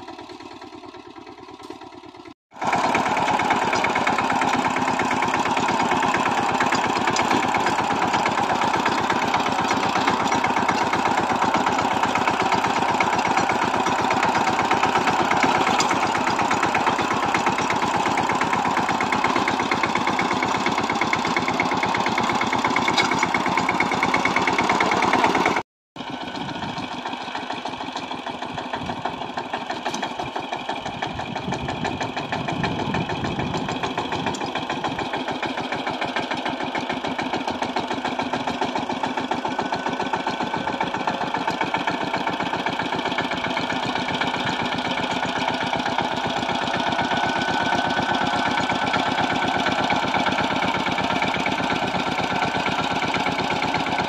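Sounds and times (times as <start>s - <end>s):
tiller diesel engine running: 0.0s - 54.0s.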